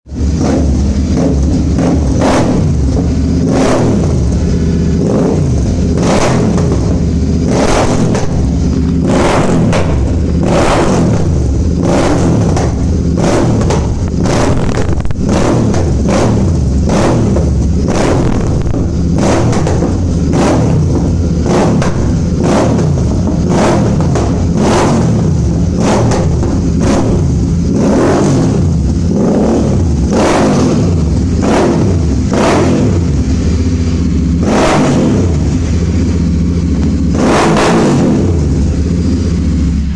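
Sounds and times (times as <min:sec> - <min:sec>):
exhaust crackles: 0:00.0 - 0:39.9
motorcycle engine revving: 0:00.0 - 0:39.9.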